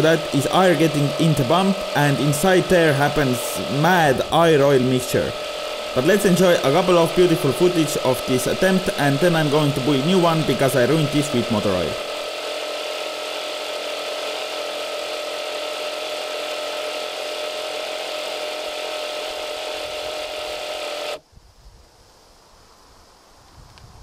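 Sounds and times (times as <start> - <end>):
motor driven pump whining: 0.0 - 21.2.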